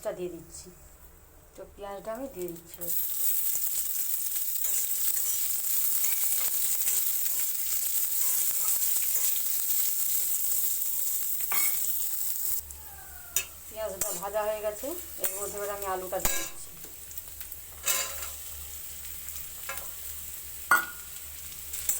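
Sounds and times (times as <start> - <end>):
onions sizzling in oil: 2.1 - 21.9.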